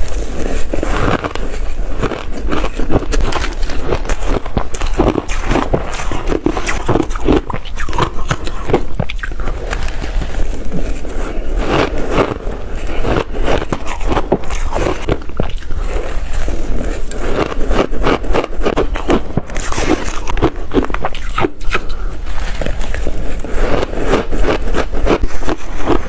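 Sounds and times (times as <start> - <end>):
person chewing with crunching: 0.0 - 26.0.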